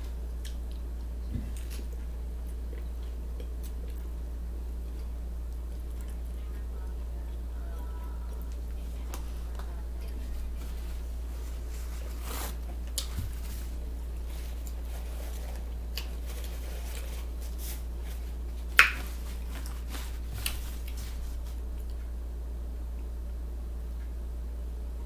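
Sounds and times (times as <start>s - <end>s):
sandwich being chewed: 0.0s - 7.0s, 7.7s - 22.2s
low hum: 0.0s - 25.0s.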